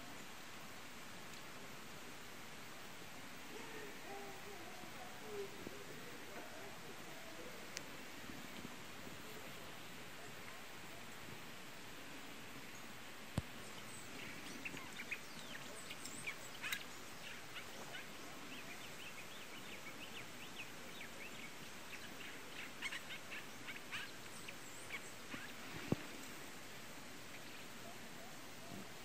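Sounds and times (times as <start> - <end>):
faint outdoor background noise: 0.0 - 29.0
birds chirping: 3.4 - 28.9.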